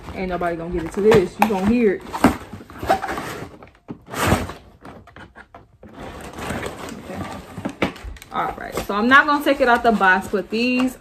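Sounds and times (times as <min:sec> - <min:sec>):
tape tearing: 0:00.0 - 0:10.9.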